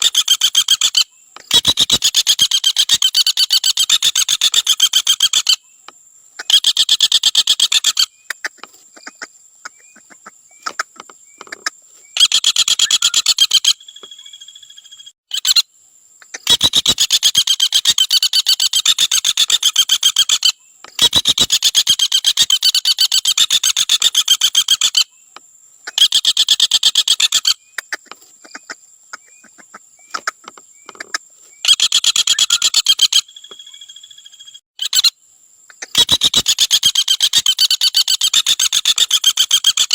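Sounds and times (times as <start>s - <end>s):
woodpecker rattling trill: 0.0s - 5.7s, 6.4s - 15.6s, 16.2s - 25.2s, 25.8s - 35.1s, 35.7s - 39.9s.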